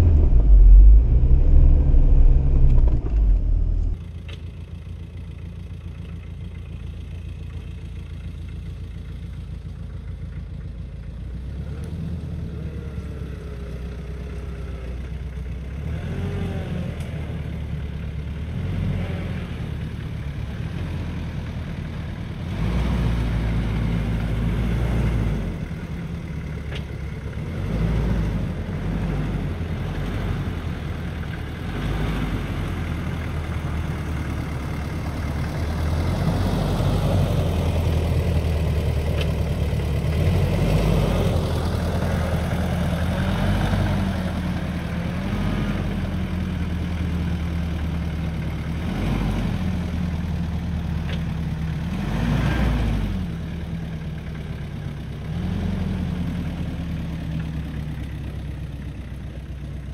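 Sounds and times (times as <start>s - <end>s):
diesel engine running at low revs: 0.0s - 59.9s.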